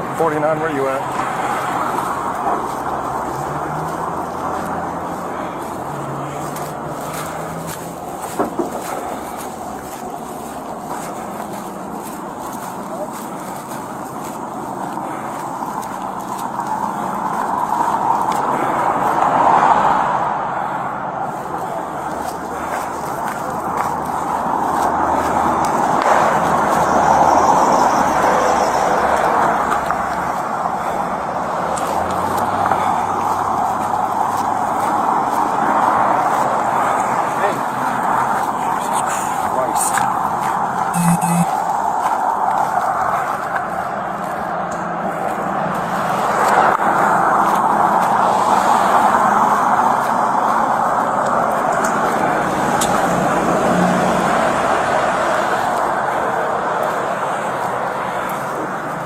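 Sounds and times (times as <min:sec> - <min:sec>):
highway traffic passing: 0:00.0 - 0:59.0.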